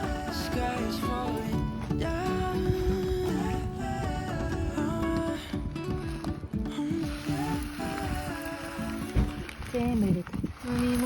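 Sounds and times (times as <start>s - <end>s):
person singing: 0.0s - 9.6s
pop song with acoustic guitar: 0.0s - 11.0s.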